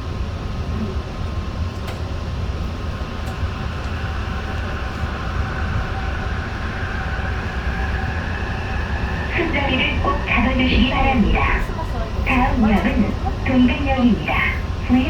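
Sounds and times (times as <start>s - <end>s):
train rumble: 0.0s - 15.0s
train motor whine rising: 2.7s - 15.0s.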